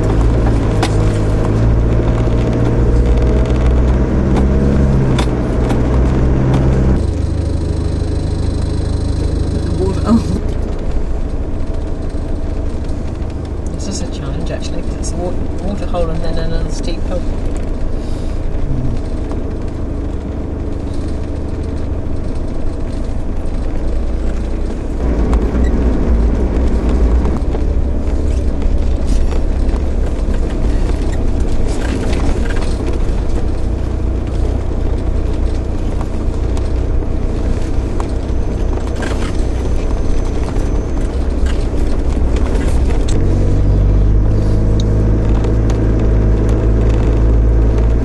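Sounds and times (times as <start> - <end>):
vehicle engine low rumble: 0.0 - 48.0.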